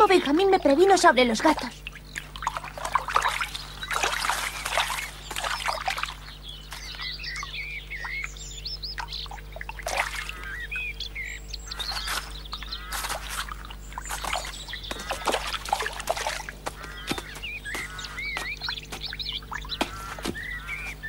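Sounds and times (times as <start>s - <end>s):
water trickling and splashing: 0.0s - 11.0s, 11.7s - 21.0s
small birds chirping: 0.0s - 21.0s.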